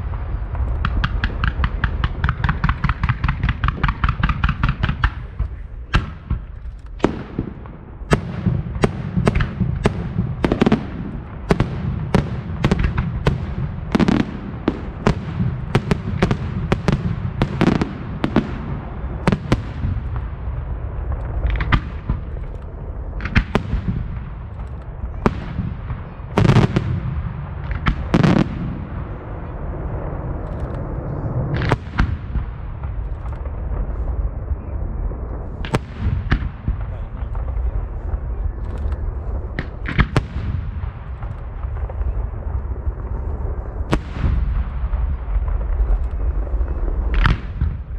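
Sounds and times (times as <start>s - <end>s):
fireworks bursting and banging: 0.0s - 47.9s.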